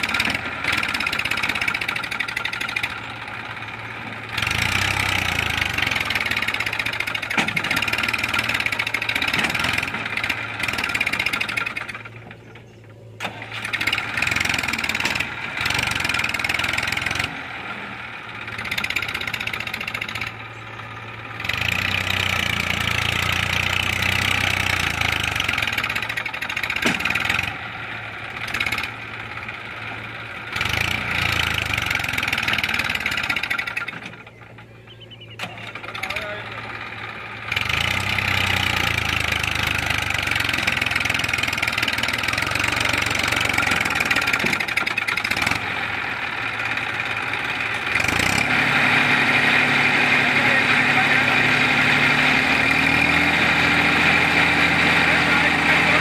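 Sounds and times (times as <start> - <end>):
tractor diesel engine labouring: 0.0 - 56.0.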